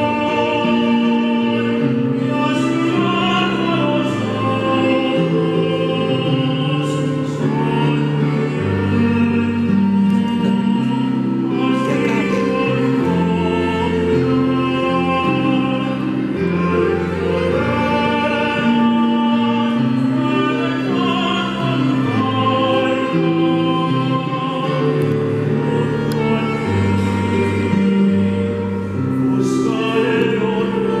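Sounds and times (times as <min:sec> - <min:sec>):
keyboard played as an organ: 0:00.0 - 0:31.0
tenor singing a hymn: 0:00.0 - 0:31.0
violin: 0:00.0 - 0:31.0.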